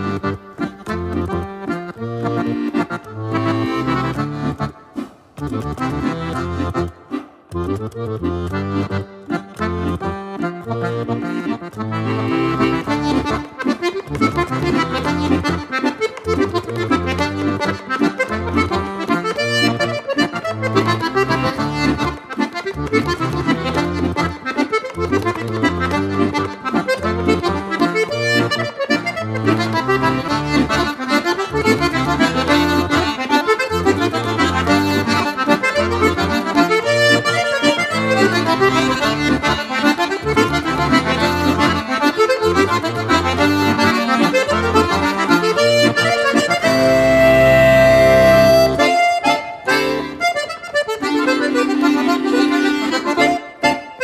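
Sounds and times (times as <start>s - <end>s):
instrumental background music: 0.0s - 54.0s.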